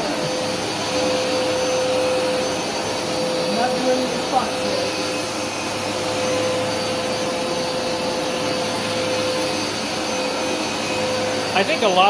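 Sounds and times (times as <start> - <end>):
carpet washer running: 0.0 - 12.0.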